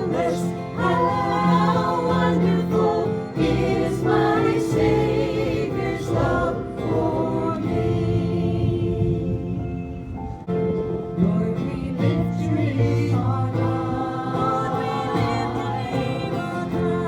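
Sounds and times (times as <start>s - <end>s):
group singing a hymn: 0.0s - 10.6s, 11.2s - 17.0s.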